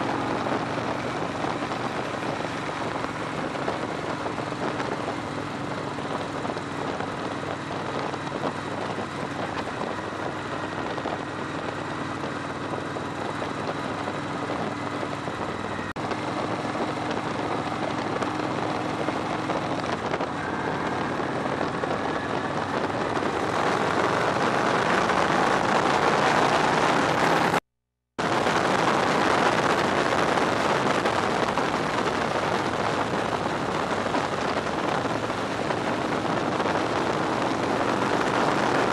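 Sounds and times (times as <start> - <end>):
motorcycle engine running: 0.0 - 27.6, 28.2 - 38.9
wind rushing over microphone: 0.0 - 27.6, 28.2 - 38.9.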